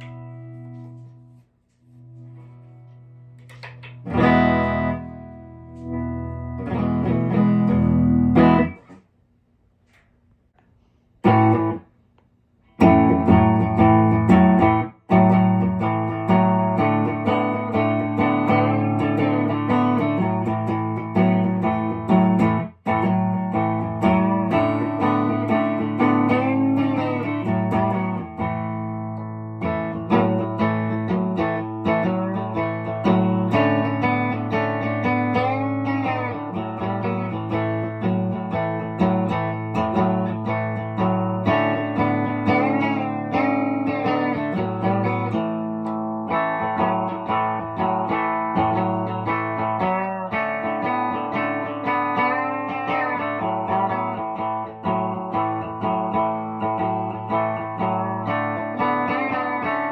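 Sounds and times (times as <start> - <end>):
electric guitar playing: 0.0 - 9.1, 11.2 - 11.9, 12.8 - 59.9.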